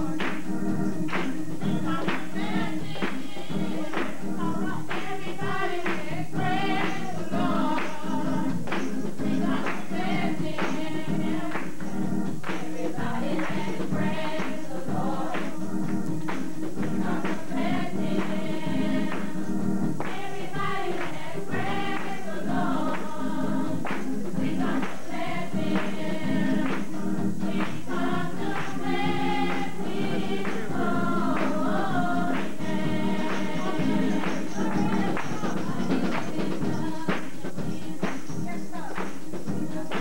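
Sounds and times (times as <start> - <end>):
choir singing: 0.0 - 40.0
hand claps: 0.1 - 18.4, 19.1 - 19.4, 20.0 - 21.3, 23.8 - 26.0, 26.6 - 27.0, 27.6 - 29.8, 30.4 - 30.8, 31.4 - 31.7, 32.3 - 37.4, 38.0 - 40.0.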